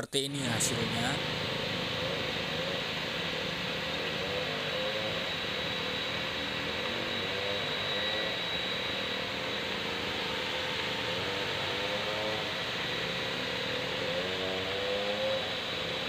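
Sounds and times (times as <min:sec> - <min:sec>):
faint wavering hum: 0:00.0 - 0:16.0.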